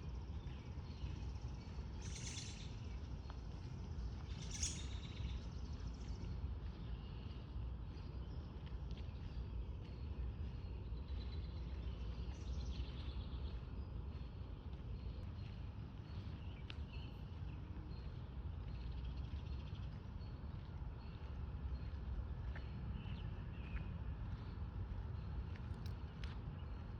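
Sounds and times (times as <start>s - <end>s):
steady low rumble: 0.0s - 26.9s
small birds chirping: 0.3s - 26.9s.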